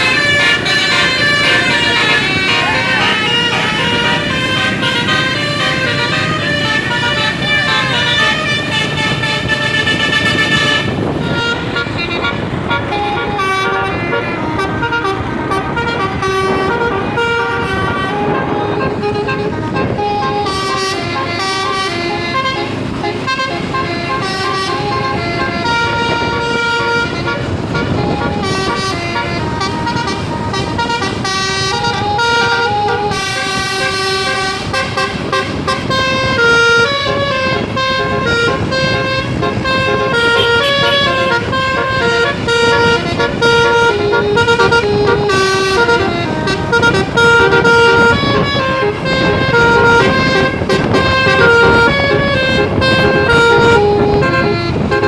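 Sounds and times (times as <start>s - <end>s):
low rumble of vehicle noise: 0.0s - 55.0s
multi-tone bus horn playing a tune: 0.0s - 55.0s.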